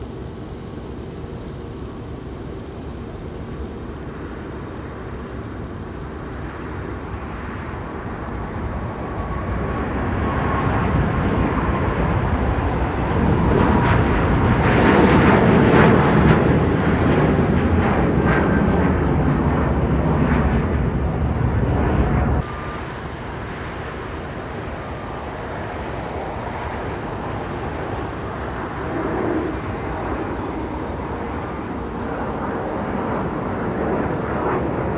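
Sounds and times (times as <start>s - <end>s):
jet airliner passing: 0.0s - 34.9s.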